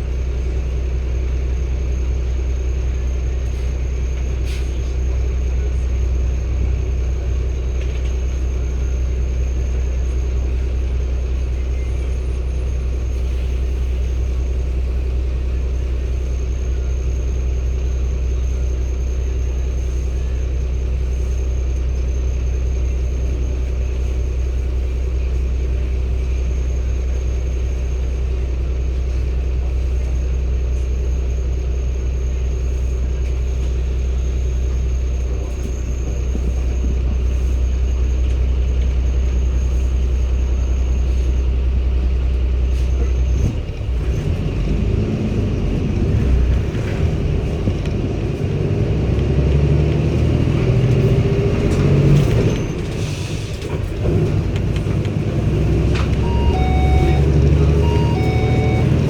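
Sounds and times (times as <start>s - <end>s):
bus diesel engine revving: 0.0s - 59.0s.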